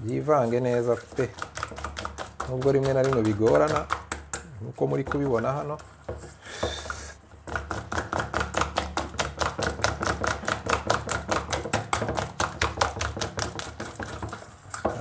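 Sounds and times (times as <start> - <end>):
whisk clicking against metal bowl: 0.2 - 6.2, 7.4 - 15.0.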